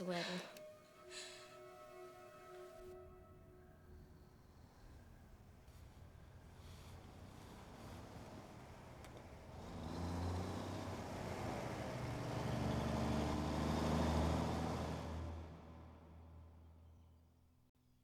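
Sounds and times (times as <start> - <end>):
car driving past: 1.0 - 17.4.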